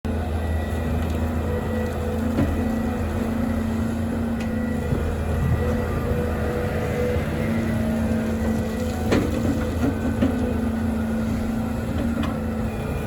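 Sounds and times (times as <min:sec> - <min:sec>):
excavator diesel engine humming: 0:00.1 - 0:13.0.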